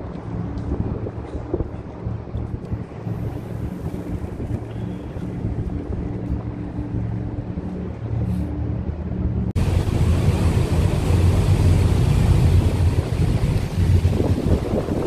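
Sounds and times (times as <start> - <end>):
ferry engine drone: 0.0 - 15.0
water: 0.0 - 15.0
wind buffeting microphone: 0.0 - 15.0.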